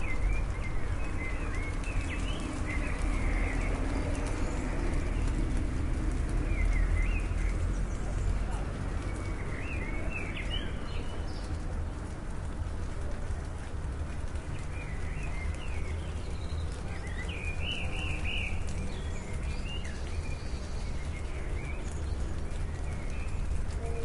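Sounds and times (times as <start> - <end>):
birds chirping: 0.0 - 11.8, 12.8 - 24.0.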